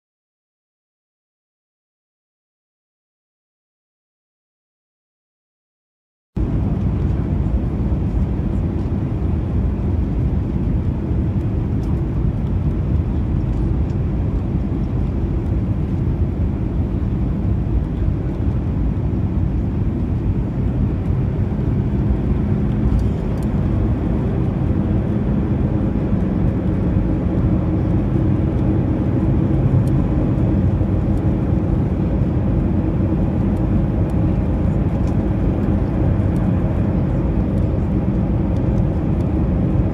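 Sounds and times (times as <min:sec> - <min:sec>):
jet engine and airflow noise: 0:06.4 - 0:39.9
low engine hum: 0:06.4 - 0:39.9.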